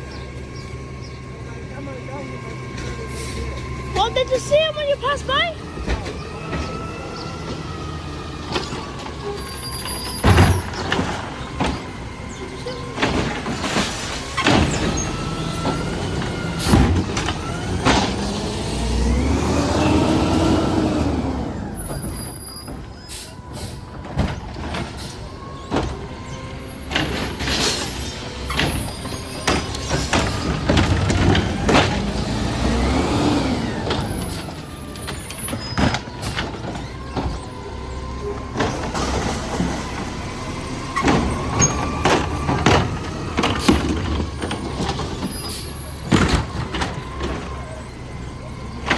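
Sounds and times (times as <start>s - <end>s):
carts clanking against truck: 0.0s - 48.9s
garbage truck engine revving: 0.0s - 48.9s.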